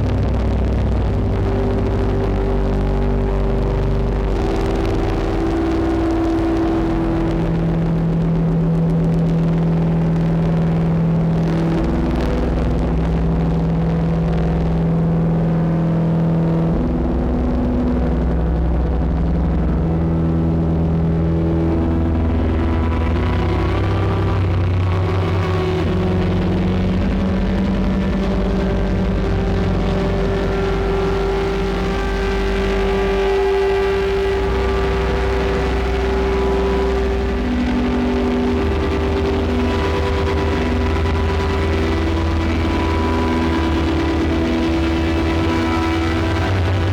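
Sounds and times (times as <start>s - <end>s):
deep rumble: 0.0s - 46.9s
distorted synthesizer drone: 0.0s - 46.9s.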